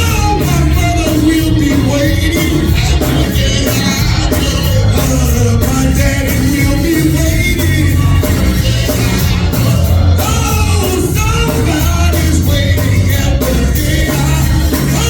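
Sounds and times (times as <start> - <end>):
band with strong bass: 0.0 - 15.0
voices singing gospel: 0.0 - 15.0.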